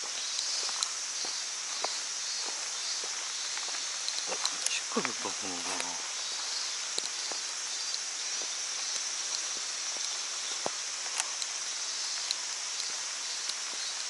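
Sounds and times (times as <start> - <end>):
rain hissing on water: 0.0 - 14.0.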